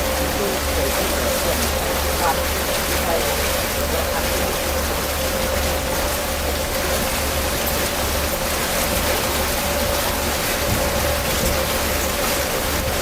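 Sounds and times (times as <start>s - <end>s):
boat engine throbbing hum: 0.0s - 13.0s.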